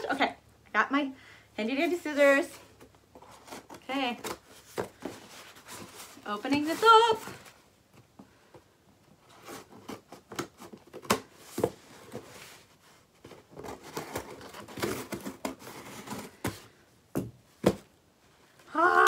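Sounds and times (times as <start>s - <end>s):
cardboard and tape rustling: 1.7s - 17.9s.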